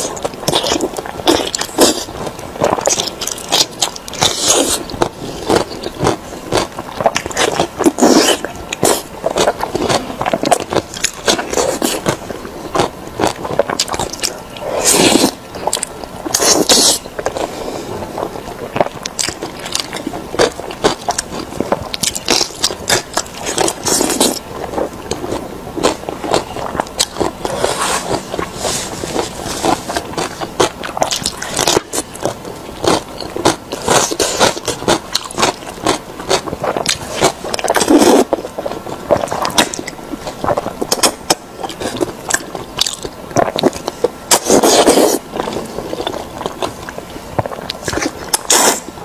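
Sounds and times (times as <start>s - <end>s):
wet chewing and smacking: 0.0s - 49.0s.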